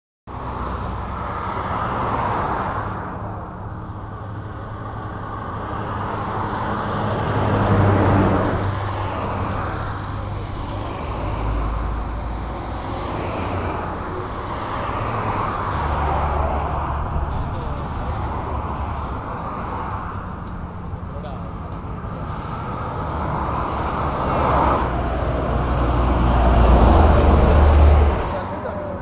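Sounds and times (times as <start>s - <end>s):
road traffic noise: 0.3s - 29.0s
vehicle passing: 0.4s - 29.0s.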